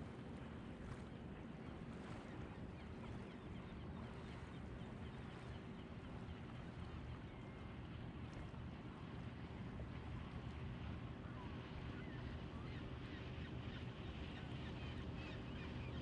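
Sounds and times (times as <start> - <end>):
wading in shallow water: 0.0 - 16.0
wind rumble on microphone: 0.0 - 16.0.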